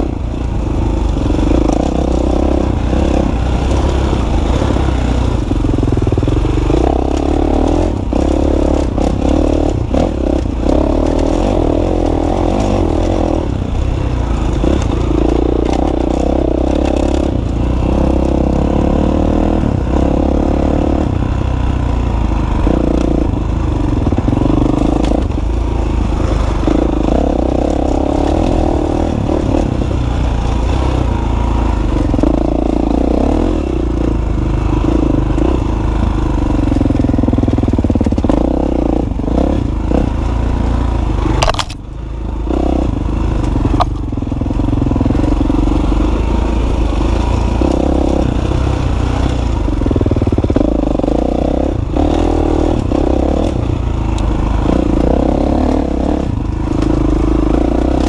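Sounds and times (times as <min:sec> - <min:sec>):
bike rattling over bumps: 0:00.0 - 0:58.0
dirt bike engine revving: 0:00.0 - 0:58.0.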